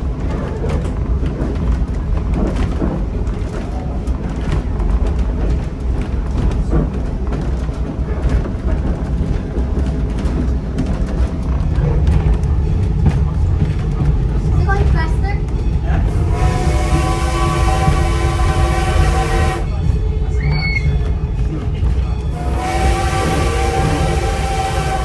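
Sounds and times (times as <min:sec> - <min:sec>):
train coach rolling on track: 0:00.0 - 0:25.0.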